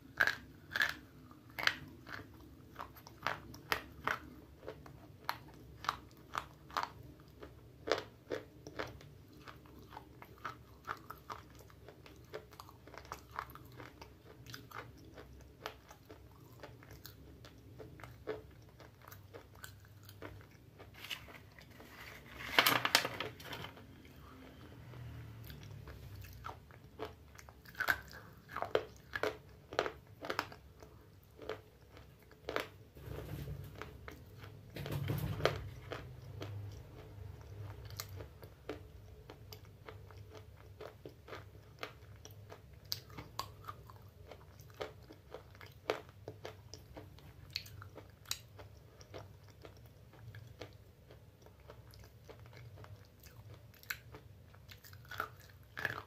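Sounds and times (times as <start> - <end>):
person chewing crunchy food: 0.0 - 22.5, 23.4 - 34.7, 35.4 - 56.0.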